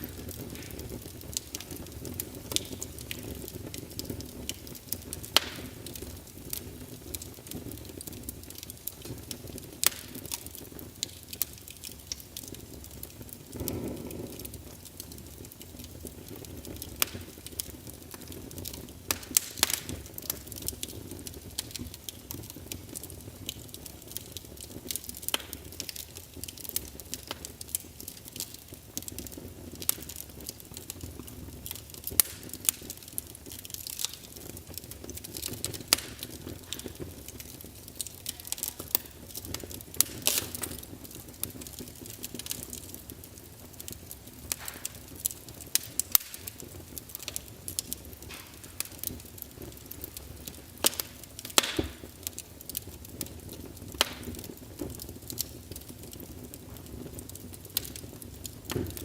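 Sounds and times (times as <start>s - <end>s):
rush of flame: 0.0s - 59.0s
wood fire crackling and popping: 0.0s - 59.0s.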